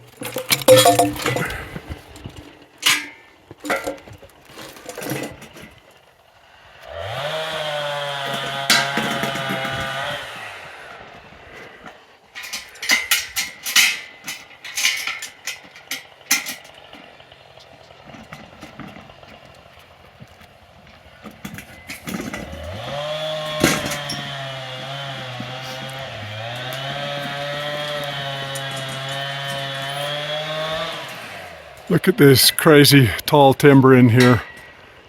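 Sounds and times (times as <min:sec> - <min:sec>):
chainsaw engine running: 0:04.6 - 0:35.0.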